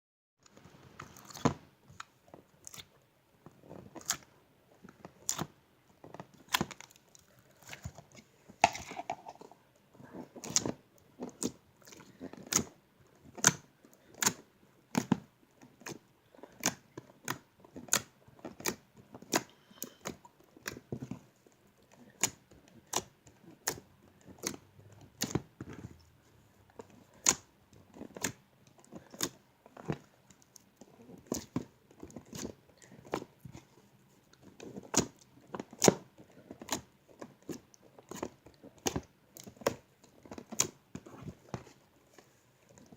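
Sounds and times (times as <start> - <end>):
slime squishing: 0.9 - 42.9.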